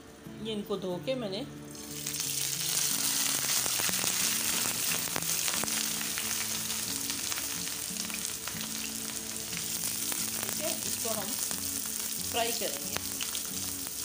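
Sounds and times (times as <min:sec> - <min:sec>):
oil bubbling: 0:01.7 - 0:14.0
vegetable peels sizzling in hot oil: 0:01.7 - 0:14.0.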